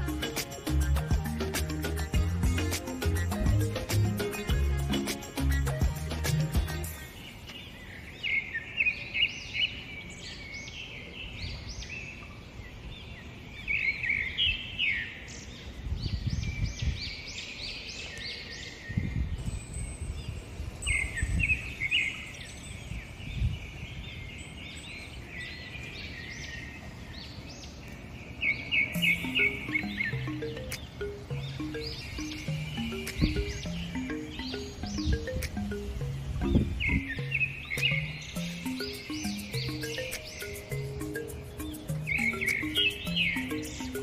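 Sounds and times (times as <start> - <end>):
small birds chirping and singing: 0.0 - 44.0.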